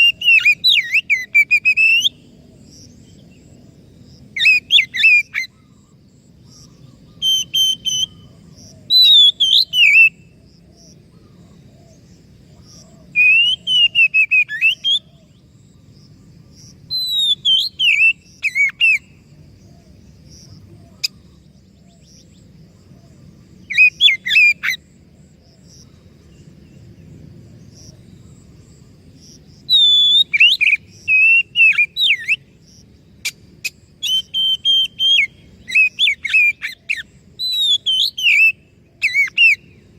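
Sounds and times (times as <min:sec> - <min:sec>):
bird singing: 0:00.0 - 0:39.9
faint background hiss: 0:00.0 - 0:39.9.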